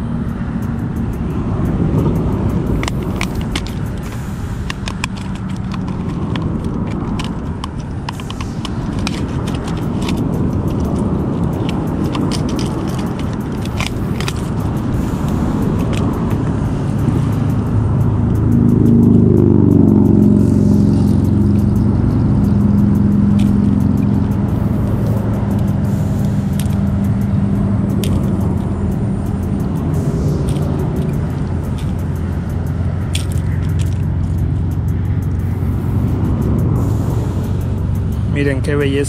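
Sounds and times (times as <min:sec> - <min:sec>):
low rumble of traffic: 0:00.0 - 0:39.0.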